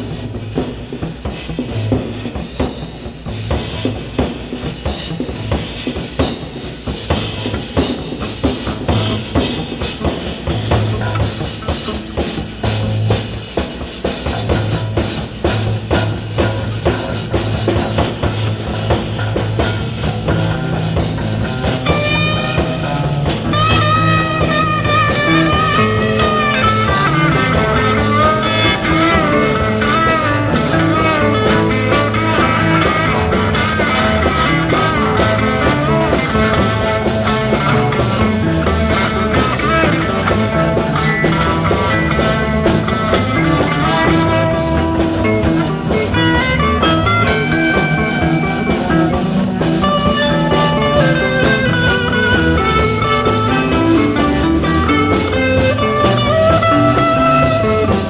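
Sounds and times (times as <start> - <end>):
bass guitar groove: 0.0 - 58.0
drum kit: 0.0 - 58.0
electric lead guitar: 0.0 - 58.0.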